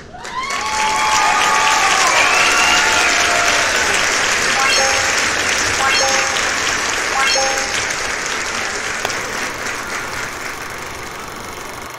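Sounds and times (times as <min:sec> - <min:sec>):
applause: 0:00.0 - 0:11.9.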